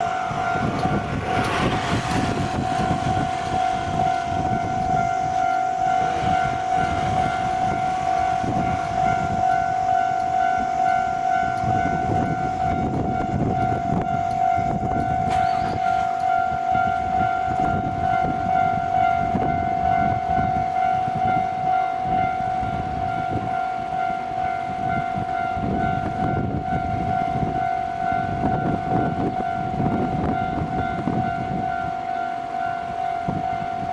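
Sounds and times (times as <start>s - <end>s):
level-crossing warning bell: 0.0s - 33.9s.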